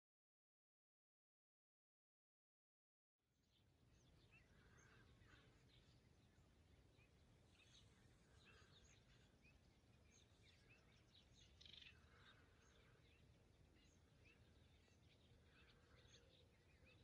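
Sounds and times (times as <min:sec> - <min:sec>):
faint birdsong chirps: 0:03.3 - 0:17.0.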